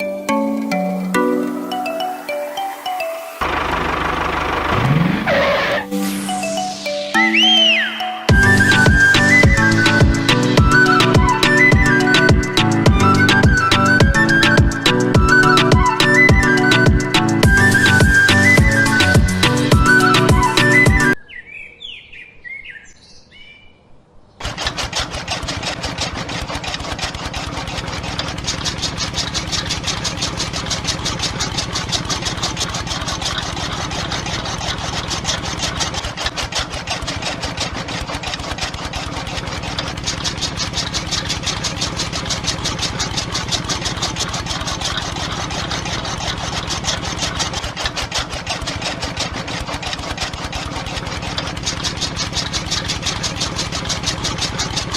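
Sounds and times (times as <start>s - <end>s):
engine chugging: 3.2s - 21.2s, 24.4s - 54.9s.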